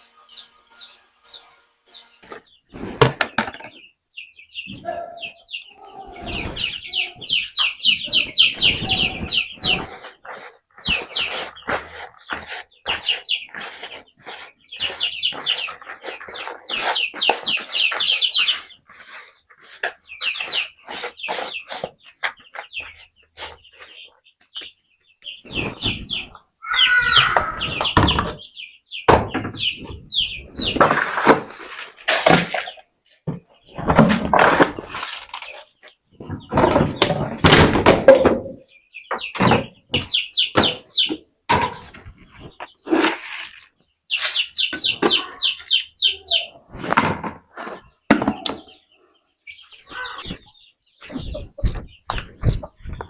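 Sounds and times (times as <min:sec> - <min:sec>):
chickens calling: 0:00.0 - 0:53.0.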